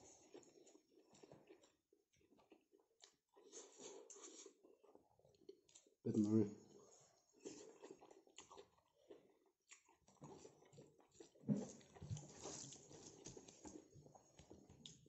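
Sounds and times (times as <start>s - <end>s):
chewing and mouth sounds: 0.0s - 15.0s.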